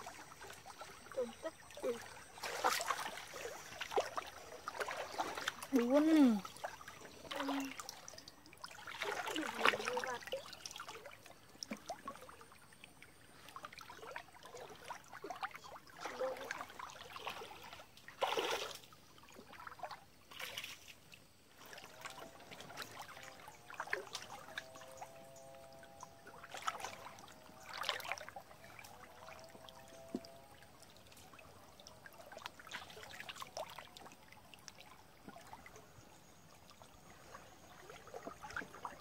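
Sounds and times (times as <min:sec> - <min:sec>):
stream water trickling: 0:00.0 - 0:39.0
water splashes: 0:00.0 - 0:39.0.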